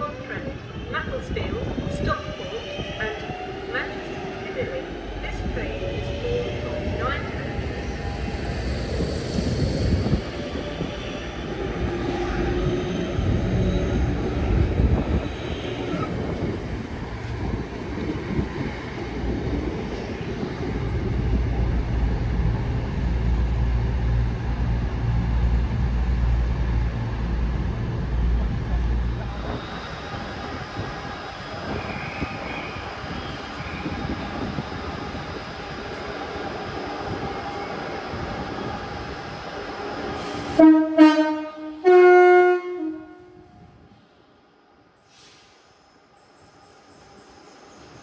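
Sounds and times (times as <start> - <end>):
train rail rumble: 0.0 - 44.2.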